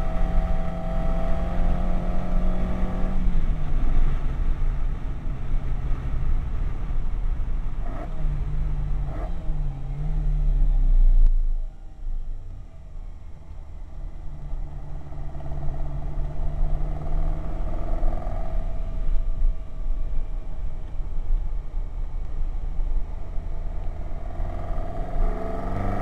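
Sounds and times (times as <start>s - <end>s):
sports car engine accelerating: 0.0s - 4.7s, 7.7s - 26.0s
road and tyre rumble: 0.0s - 26.0s.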